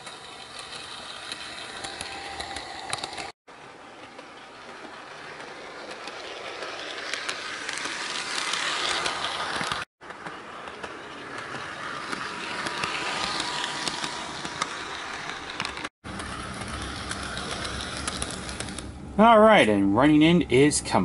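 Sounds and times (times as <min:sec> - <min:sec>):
model train motor whirring: 0:00.0 - 0:18.9.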